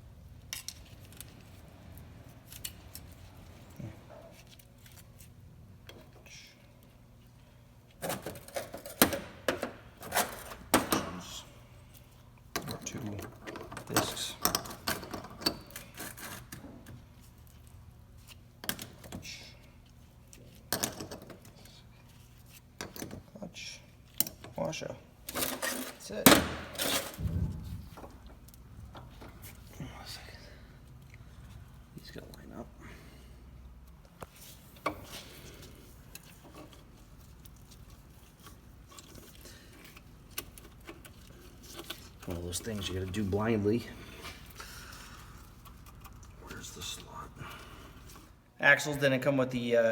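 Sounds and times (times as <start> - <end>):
steady low hum: 0.0 - 48.5.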